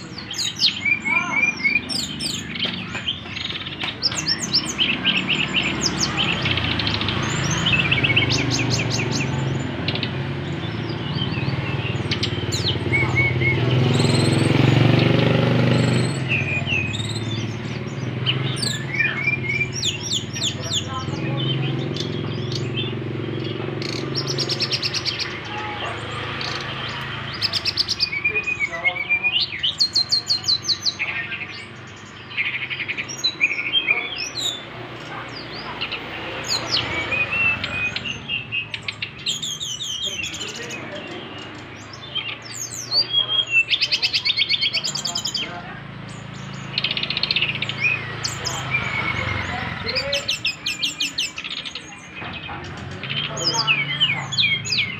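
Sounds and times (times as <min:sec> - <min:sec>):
bird singing whistles and trills: 0:00.0 - 0:54.9.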